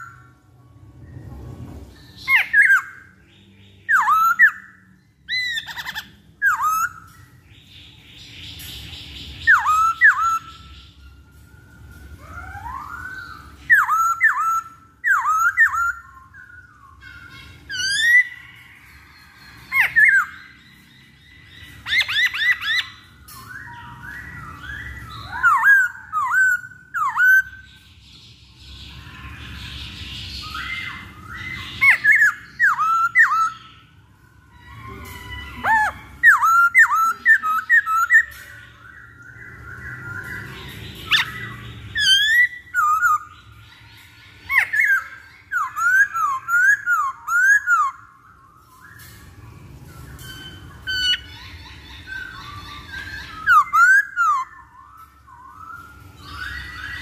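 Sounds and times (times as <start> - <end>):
bird singing whistled notes: 0.0 - 57.0
bird raspy calls: 2.0 - 11.2, 11.8 - 27.8, 28.5 - 57.0.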